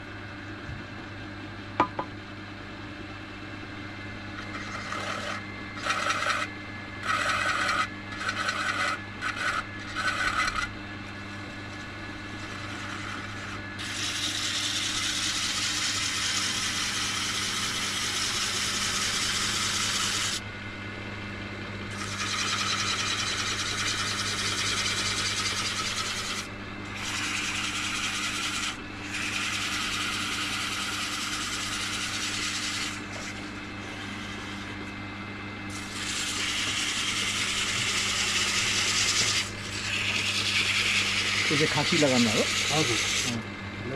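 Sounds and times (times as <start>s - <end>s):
lathe motor hum: 4.0s - 43.9s
tool scraping spinning wood: 4.3s - 20.4s, 21.8s - 35.0s, 35.7s - 43.9s.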